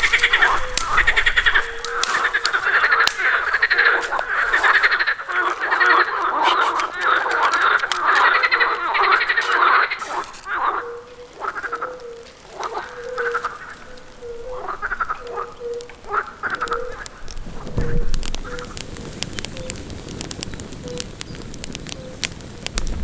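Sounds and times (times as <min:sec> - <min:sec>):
frogs croaking: 0:00.0 - 0:23.0.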